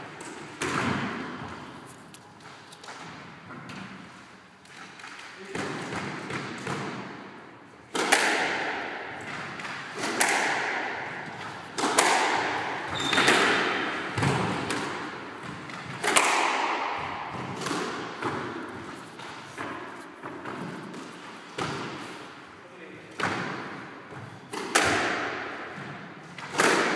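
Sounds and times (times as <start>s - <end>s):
squash ball hits echoing: 0.0s - 1.8s, 2.8s - 22.4s, 23.1s - 26.9s.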